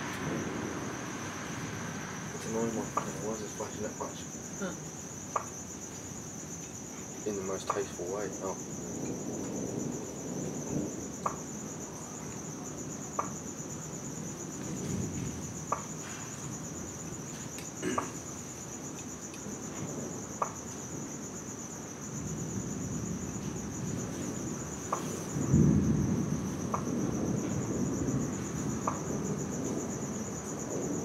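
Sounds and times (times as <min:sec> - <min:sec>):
distant thunder rumbling: 0:00.0 - 0:18.8, 0:19.4 - 0:31.0
night insects chirping: 0:00.0 - 0:31.0.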